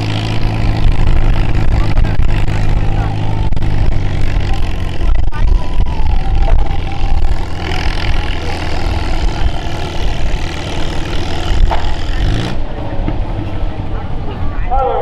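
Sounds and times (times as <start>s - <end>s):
tractor engine running under load: 0.0s - 14.4s.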